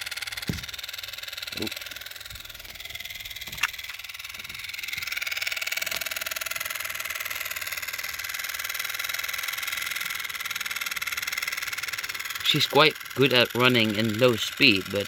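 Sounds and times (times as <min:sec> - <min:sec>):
model locomotive motor whining: 0:00.0 - 0:15.0.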